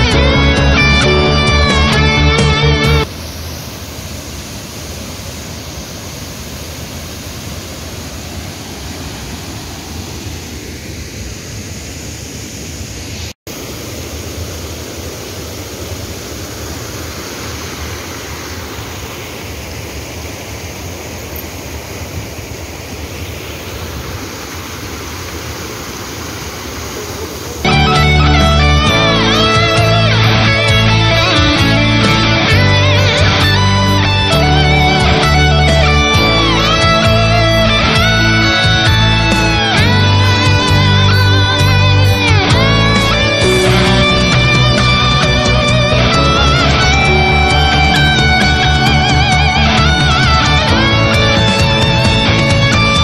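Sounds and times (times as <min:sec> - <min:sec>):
small waterfall rushing: 0:02.9 - 0:53.0.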